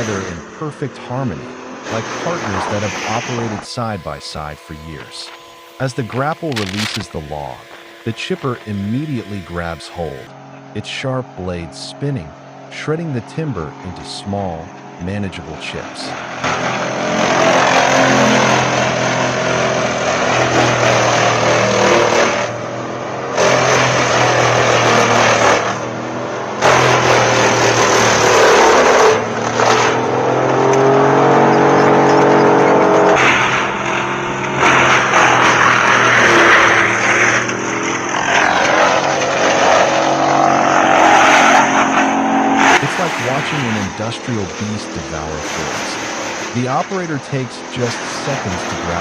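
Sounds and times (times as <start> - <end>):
wood chipper engine drone: 0.0 - 49.0
wood grinding and shredding: 1.8 - 10.6, 13.8 - 49.0.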